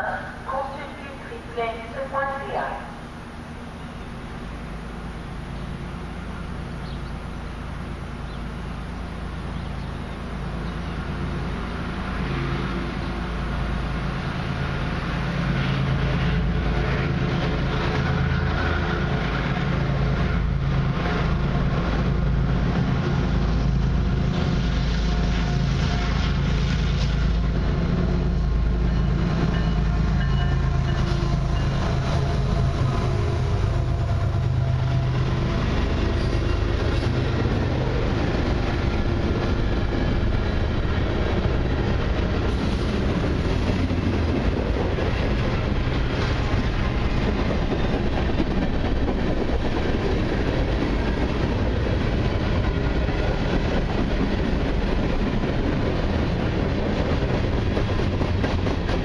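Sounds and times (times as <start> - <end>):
diesel locomotive engines: 0.0 - 59.0
freight cars rumbling over rails: 0.0 - 59.0.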